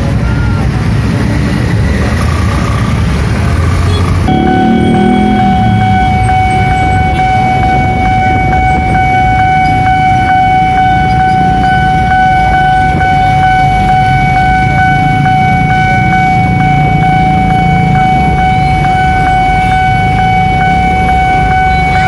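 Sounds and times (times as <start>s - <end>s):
motorcycle and car engines: 0.0s - 22.0s
level crossing warning tone: 1.7s - 22.0s.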